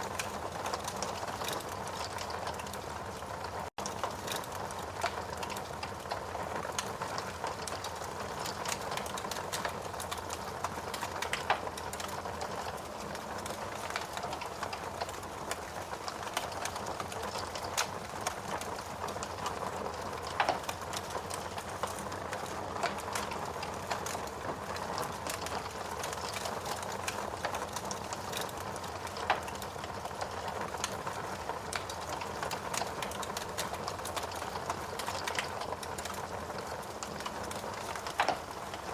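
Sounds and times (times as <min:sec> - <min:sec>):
fire crackling in a fireplace: 0:00.0 - 0:38.9
steady rain: 0:00.0 - 0:38.9.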